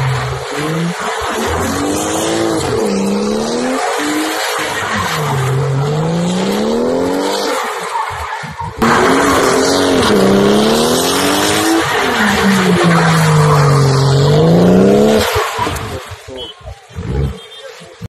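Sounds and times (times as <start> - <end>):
car engine revving: 0.0 - 8.0, 8.8 - 17.4.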